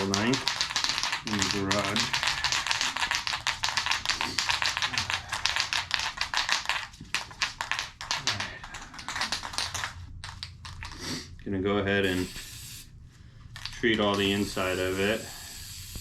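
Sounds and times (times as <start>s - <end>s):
aerosol can ball rattling: 0.0s - 11.1s, 13.6s - 16.0s.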